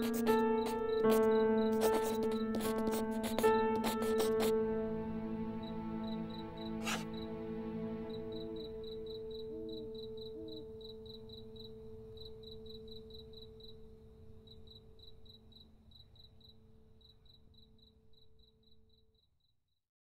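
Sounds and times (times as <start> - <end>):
crickets chirping: 0.0 - 19.5.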